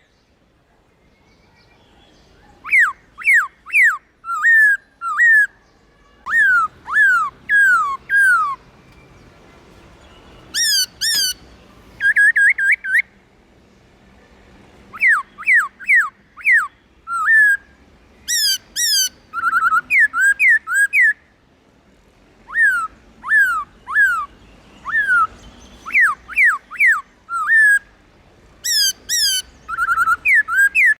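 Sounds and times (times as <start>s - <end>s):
bird singing whistled notes: 1.0s - 9.3s, 10.0s - 13.1s, 14.9s - 21.3s, 22.5s - 27.9s, 28.6s - 31.0s.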